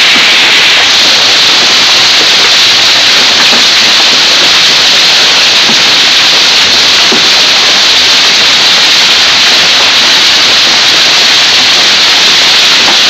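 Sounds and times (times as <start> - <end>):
hail falling: 0.0 - 13.0
heavy rain: 0.0 - 13.0.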